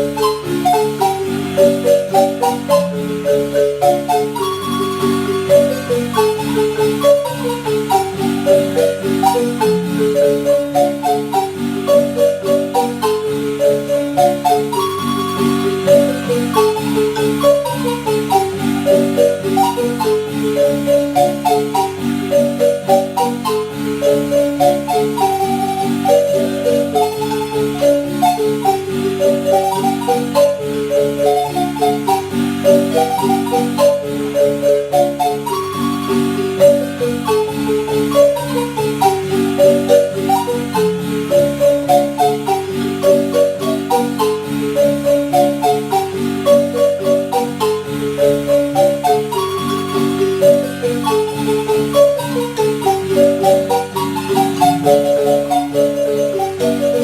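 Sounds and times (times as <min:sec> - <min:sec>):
marimba melody: 0:00.0 - 0:57.0.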